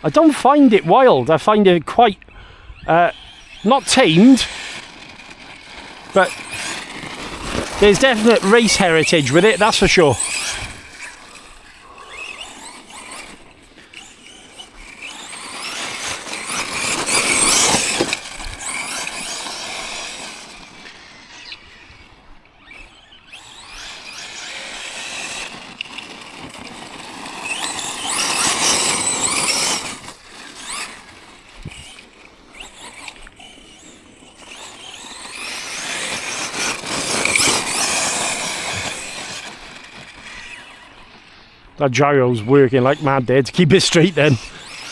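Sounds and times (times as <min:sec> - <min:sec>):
electric motor whining: 0:00.0 - 0:44.9
tyres churning over rough ground: 0:00.0 - 0:44.9.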